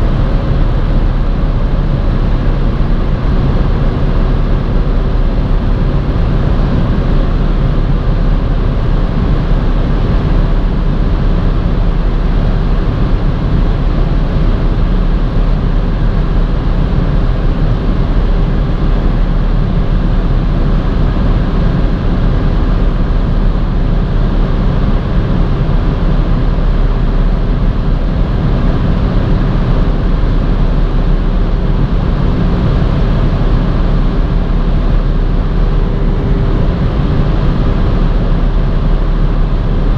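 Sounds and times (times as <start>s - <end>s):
car engine drone: 0.0s - 39.9s
road and wind noise: 0.0s - 39.9s.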